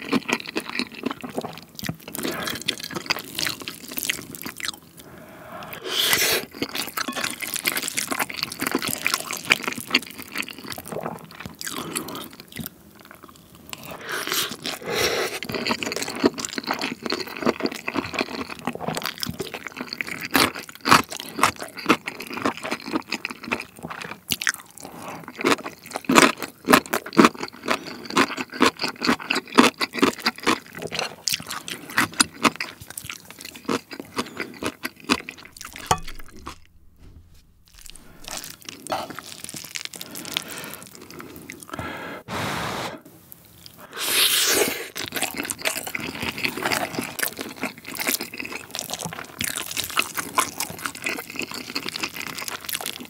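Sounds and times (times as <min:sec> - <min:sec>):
crunchy chewing: 0:06.1 - 0:41.8, 0:44.8 - 0:53.0.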